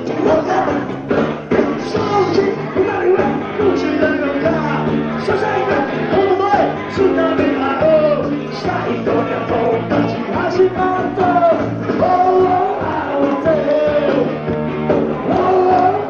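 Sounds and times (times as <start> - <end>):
drums hitting: 0.0 - 16.0
lead singer: 0.0 - 16.0
rock band playing live: 0.0 - 16.0.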